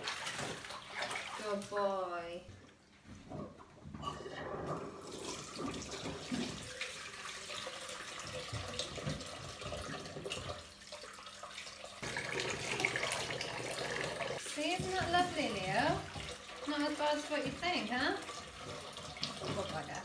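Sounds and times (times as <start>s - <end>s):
water pouring and splashing: 0.0s - 2.0s, 4.0s - 20.0s.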